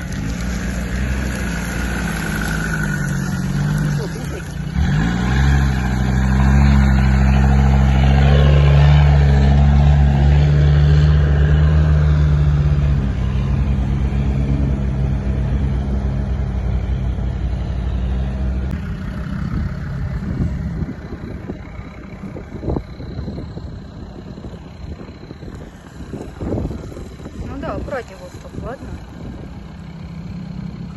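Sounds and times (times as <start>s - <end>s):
faint rumbling: 0.0s - 30.9s
off-road engine running hard: 0.0s - 30.9s.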